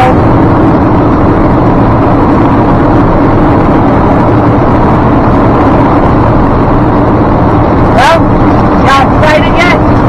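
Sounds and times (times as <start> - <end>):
truck engine and road drone: 0.0 - 10.0.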